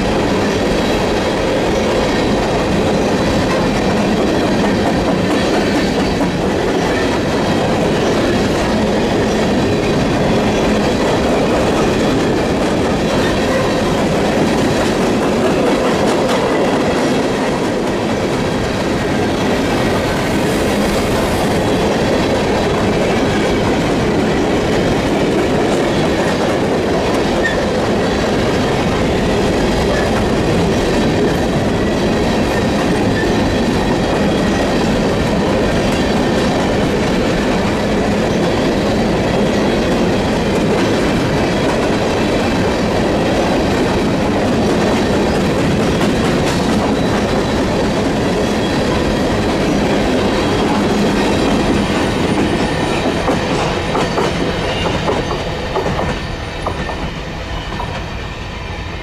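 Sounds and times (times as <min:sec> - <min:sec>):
train wheels rumbling over track: 0:00.0 - 0:59.0.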